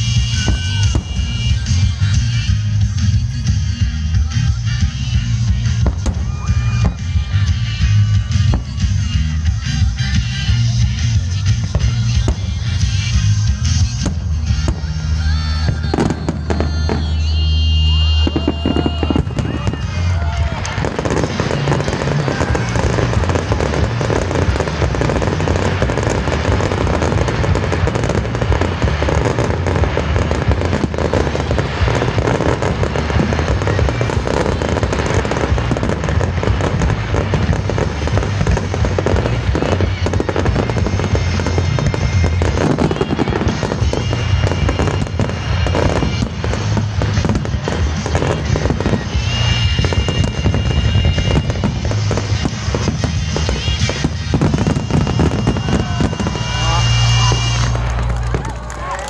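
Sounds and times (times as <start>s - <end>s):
fireworks popping and crackling: 0.0s - 59.0s
music playing: 0.0s - 59.0s.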